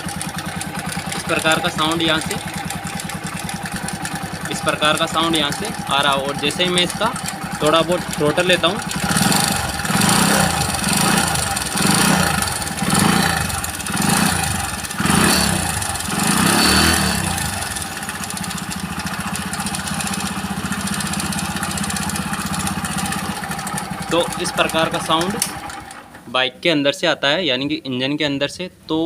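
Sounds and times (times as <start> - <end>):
motorcycle engine revving and idling: 0.0 - 26.2
rattling noise inside engine: 0.0 - 26.3.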